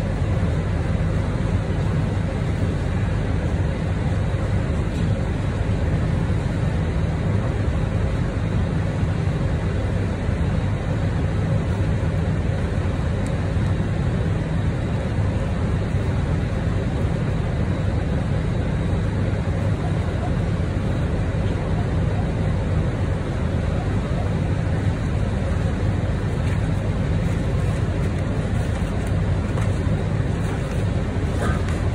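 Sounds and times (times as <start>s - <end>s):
low mechanical rumble: 0.0s - 31.9s.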